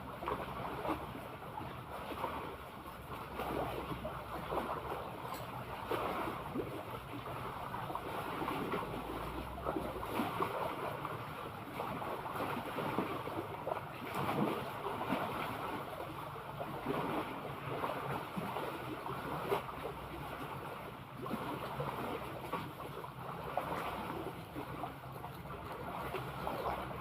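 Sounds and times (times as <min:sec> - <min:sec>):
sea water lapping and splashing: 0:00.0 - 0:27.0.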